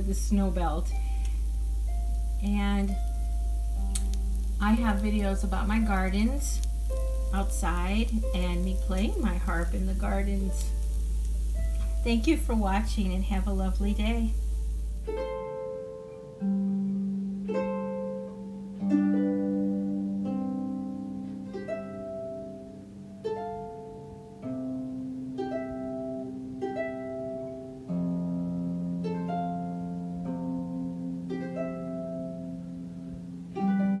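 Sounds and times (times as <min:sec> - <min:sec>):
solo harp music: 0:00.0 - 0:34.0.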